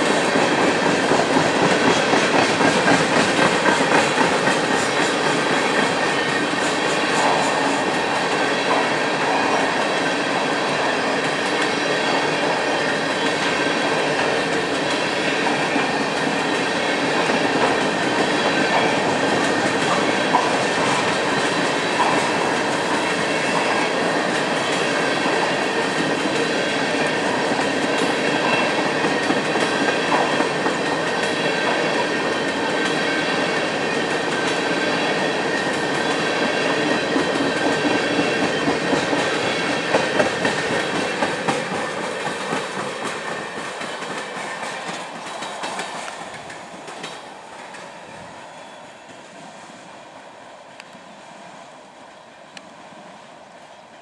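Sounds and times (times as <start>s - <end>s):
wheels clacking over track: 0.0s - 48.1s
freight train wheels rumbling: 0.0s - 54.0s.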